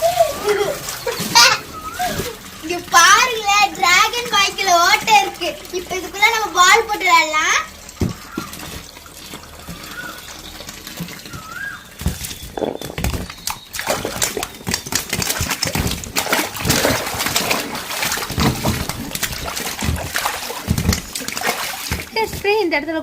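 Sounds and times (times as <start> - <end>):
water splashing in a pool: 0.0 - 23.0.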